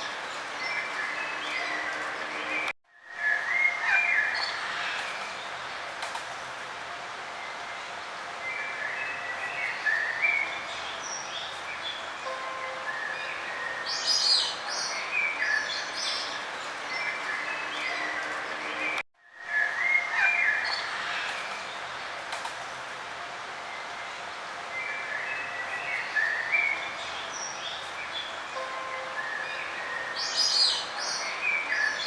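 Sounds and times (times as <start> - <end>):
songbirds chirping and trilling: 0.0 - 32.0
steady background hiss: 0.0 - 32.0.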